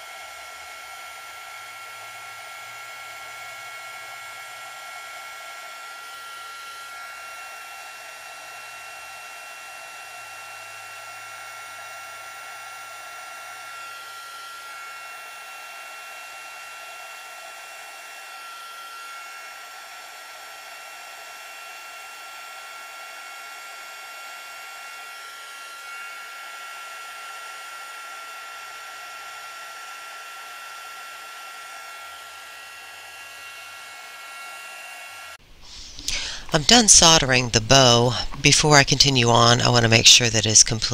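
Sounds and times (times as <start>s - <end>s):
heat gun fan hiss and whine: 0.0s - 40.9s.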